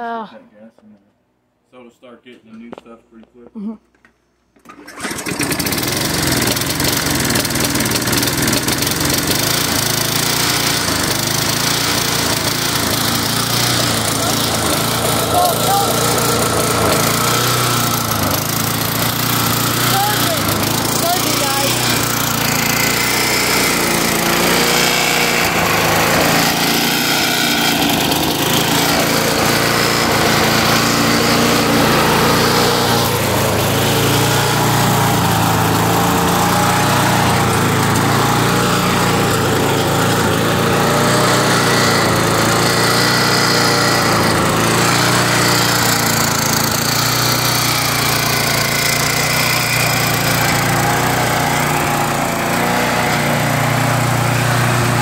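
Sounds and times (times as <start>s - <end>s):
lawn mower engine surging: 4.6s - 55.0s.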